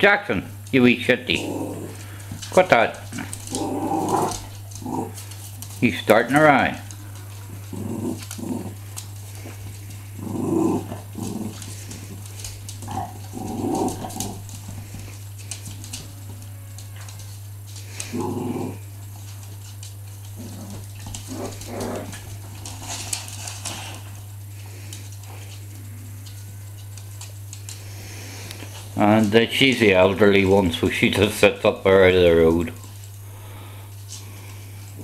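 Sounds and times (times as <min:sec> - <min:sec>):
steady low hum: 0:00.0 - 0:35.0
small dogs play-growling: 0:01.0 - 0:30.0.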